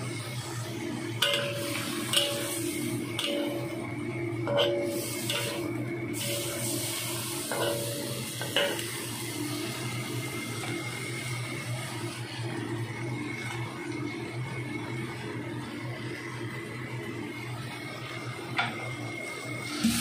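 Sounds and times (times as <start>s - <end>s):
food sizzling in a wok: 0.0s - 16.5s, 19.0s - 20.0s.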